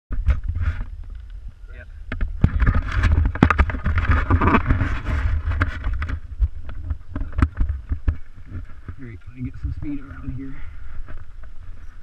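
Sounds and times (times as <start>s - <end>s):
rubbing and scraping: 0.1s - 1.3s, 2.1s - 12.0s
low wind rumble: 0.1s - 12.0s.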